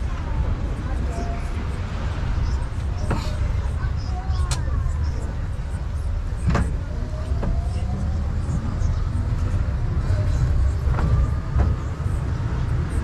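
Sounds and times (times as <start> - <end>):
carriages knocking and rattling: 0.0 - 13.0
road train rumbling over cobblestones: 0.0 - 13.0.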